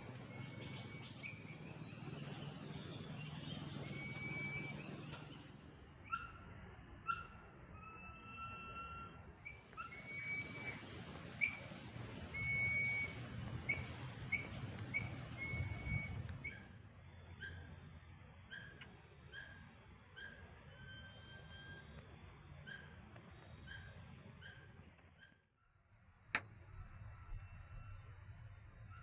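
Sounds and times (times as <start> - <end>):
high insect drone: 0.0 - 25.2.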